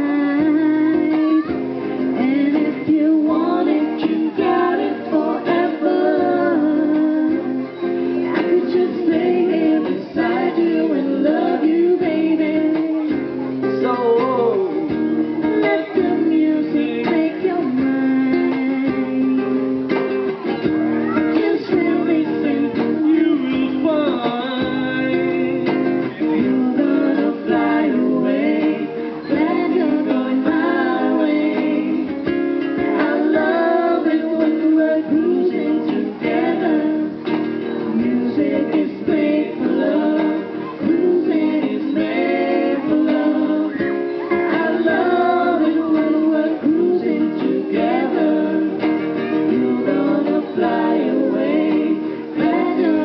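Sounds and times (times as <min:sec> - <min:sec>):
person singing: 0:00.0 - 0:53.0
strummed acoustic strings: 0:00.0 - 0:53.0.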